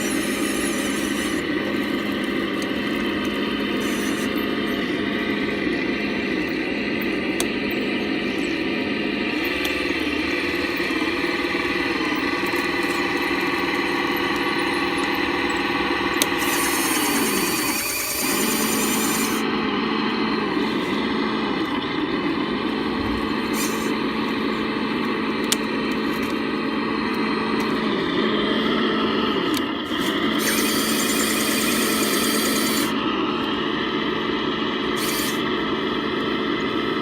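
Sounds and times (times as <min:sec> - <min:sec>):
toy bulldozer motor drone: 0:00.0 - 0:37.0.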